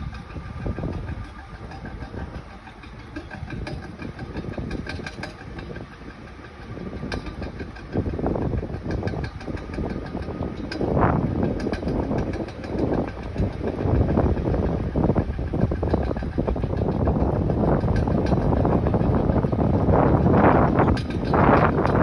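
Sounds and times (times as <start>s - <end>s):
car engine running: 0.0s - 22.0s
road noise: 0.0s - 22.0s.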